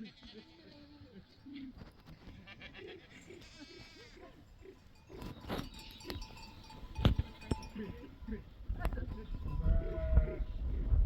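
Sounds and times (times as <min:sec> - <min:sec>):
sheep and goats bleating: 0:00.0 - 0:10.9.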